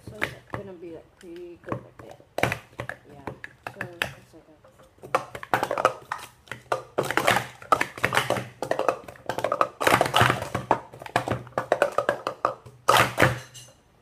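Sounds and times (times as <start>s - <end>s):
plastic cups clacking: 0.0s - 13.8s.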